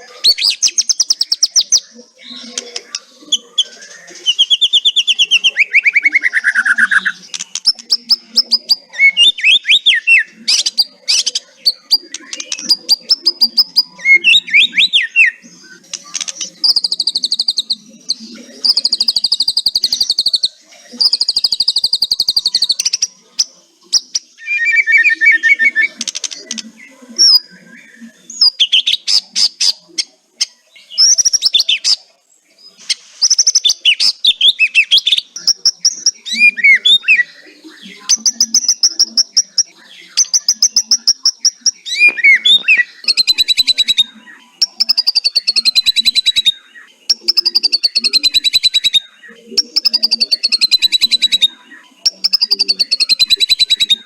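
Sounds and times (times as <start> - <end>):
clear bird whistles: 0.0 - 27.6, 33.2 - 54.0
bird singing rattling trills: 0.0 - 54.0.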